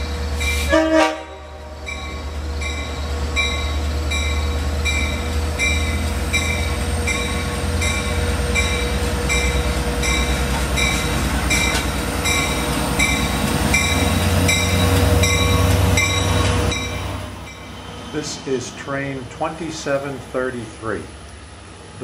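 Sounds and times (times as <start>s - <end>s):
diesel locomotive engine rumbling: 0.0s - 22.0s
locomotive bell ringing: 1.5s - 20.6s.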